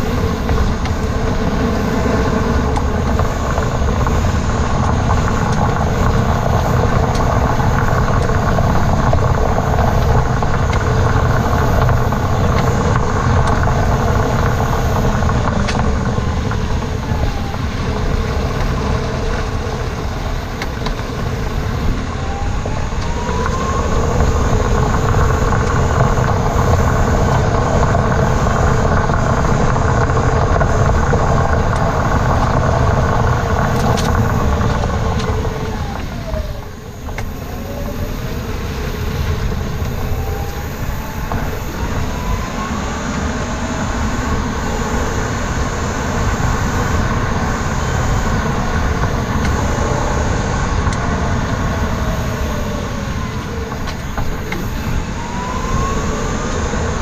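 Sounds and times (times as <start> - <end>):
car road noise rumble: 0.0 - 57.0
faint car whine: 0.0 - 57.0.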